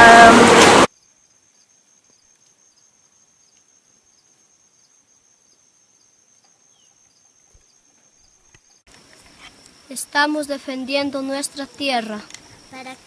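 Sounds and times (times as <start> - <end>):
insects trilling: 0.9 - 13.0
soft insect chirps: 0.9 - 13.0.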